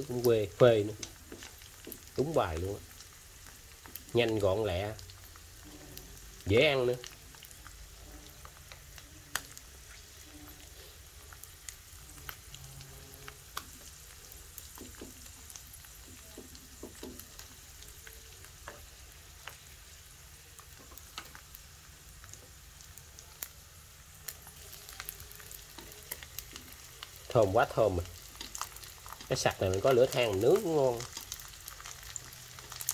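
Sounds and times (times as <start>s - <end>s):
fish sizzling in hot oil: 0.0s - 32.9s
oil crackling and popping: 0.0s - 32.9s.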